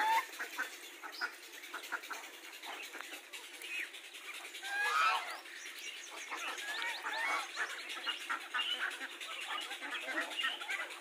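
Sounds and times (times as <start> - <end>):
ducks and geese calling: 0.0 - 11.0.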